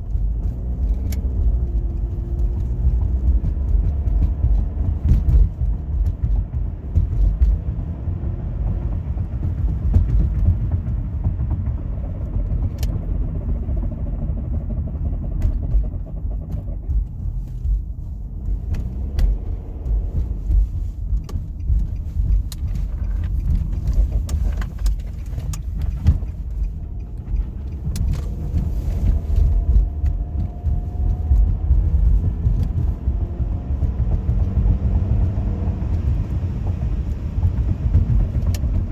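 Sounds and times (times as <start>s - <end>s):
small clicks and rattles: 0.0s - 7.9s, 8.6s - 38.9s
car road rumble: 0.0s - 38.9s.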